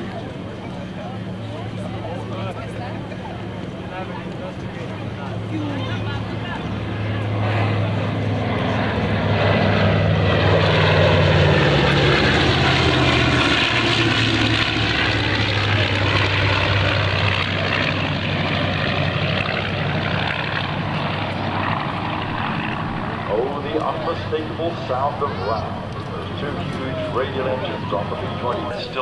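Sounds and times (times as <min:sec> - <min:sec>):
propeller plane engines droning: 0:00.0 - 0:29.0.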